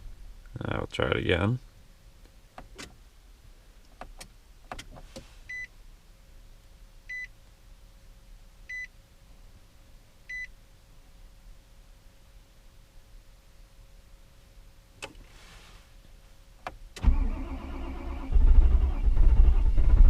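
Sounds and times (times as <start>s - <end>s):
faint steady hum: 0.0s - 19.8s.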